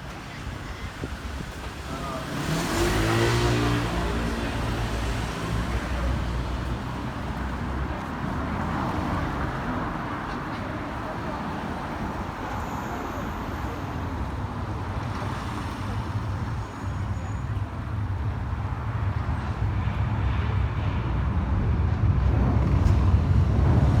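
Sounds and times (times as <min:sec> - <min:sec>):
low traffic rumble: 0:00.0 - 0:24.0.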